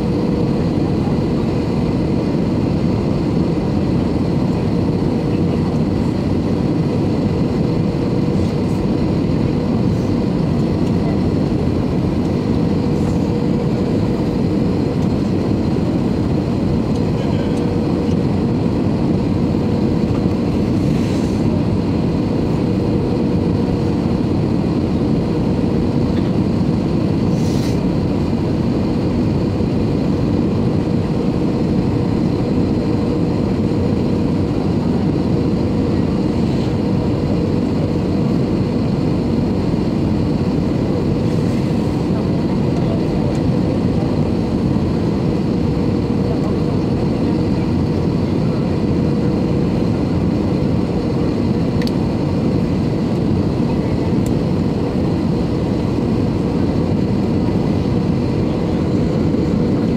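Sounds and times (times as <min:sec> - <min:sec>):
airliner cabin airflow and engines: 0:00.0 - 0:59.9.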